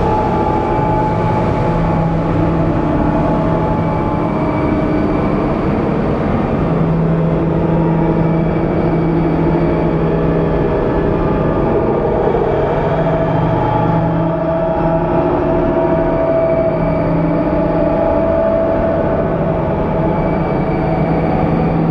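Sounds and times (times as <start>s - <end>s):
dense noise rumble: 0.0s - 21.9s
low drone tone: 0.0s - 21.9s.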